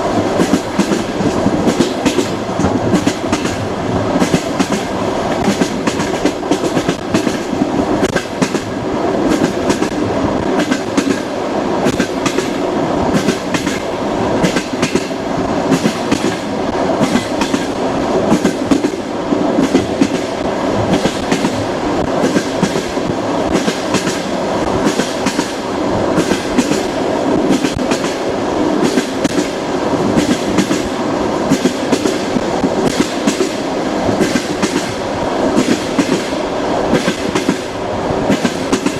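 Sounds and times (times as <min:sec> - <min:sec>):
train wheels rumbling on rails: 0:00.0 - 0:38.9
wheels clickety-clack on track: 0:00.0 - 0:38.9.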